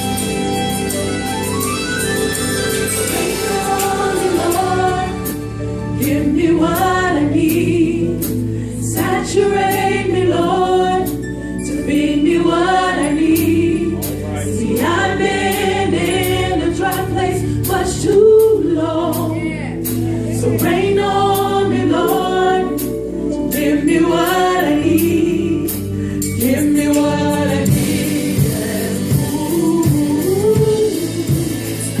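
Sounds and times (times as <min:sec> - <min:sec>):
band playing steady beat: 0:00.0 - 0:11.3, 0:12.8 - 0:32.0
gospel choir singing: 0:00.0 - 0:32.0.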